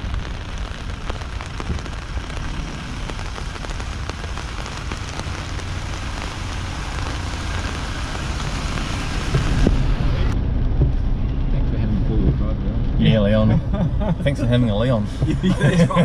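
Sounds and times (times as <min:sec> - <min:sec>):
low engine rumble: 0:00.0 - 0:16.0
rain drops ticking on surface: 0:00.0 - 0:16.0.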